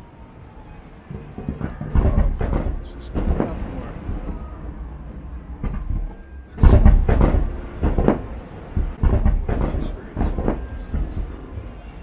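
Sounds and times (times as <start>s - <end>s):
fireworks booming: 1.1s - 12.0s.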